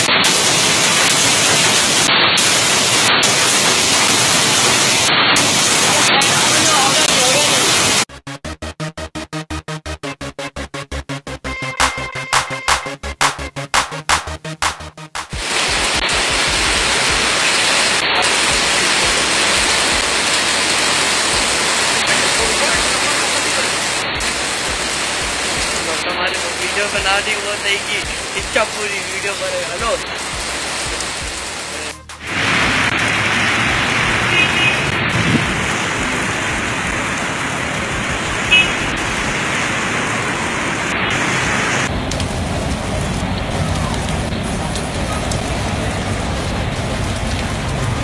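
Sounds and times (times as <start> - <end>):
hail falling on pavement and cars: 0.0 - 8.1, 15.4 - 48.0.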